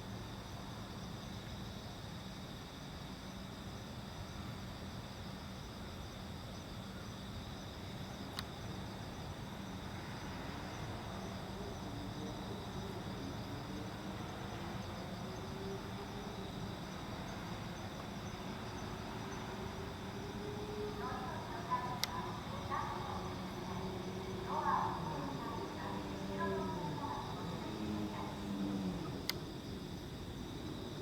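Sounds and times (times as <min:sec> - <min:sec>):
crickets and insects trilling: 0:00.0 - 0:31.0.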